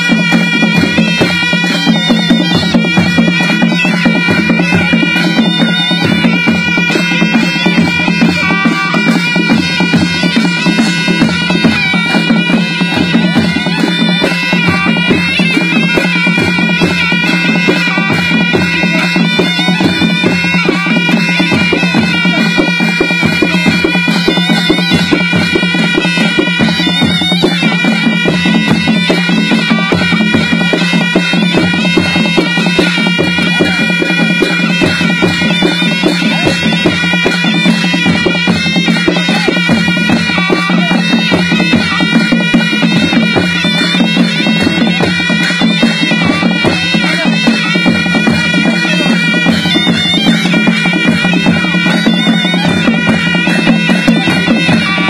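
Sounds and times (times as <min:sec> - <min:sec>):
folk drums beating: 0:00.0 - 0:55.0
reedy shawm melody: 0:00.0 - 0:55.0.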